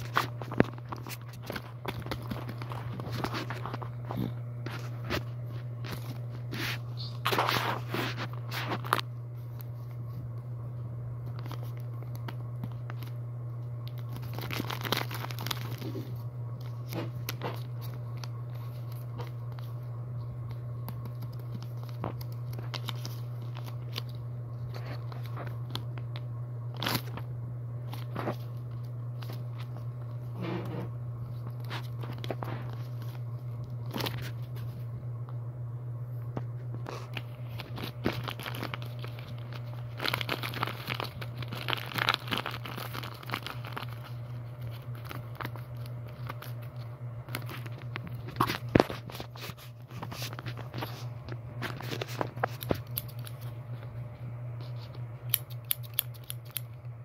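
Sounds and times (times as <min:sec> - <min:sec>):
paper crinkling and rustling: 0:00.0 - 0:10.5, 0:11.2 - 0:34.9, 0:36.2 - 0:56.8
steady low hum: 0:00.0 - 0:57.0.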